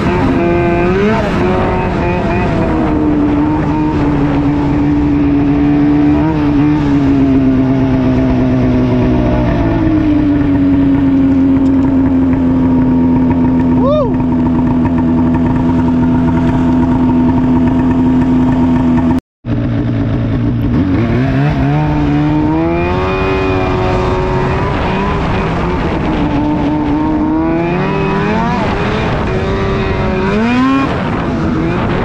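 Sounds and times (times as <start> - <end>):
snowmobile engine revving: 0.0 - 32.0.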